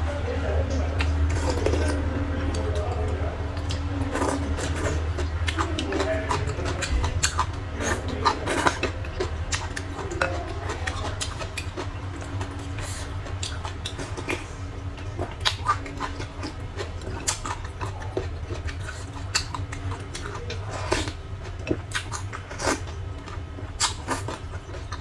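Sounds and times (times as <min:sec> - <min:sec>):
person chewing and slurping noodles: 0:01.0 - 0:25.0.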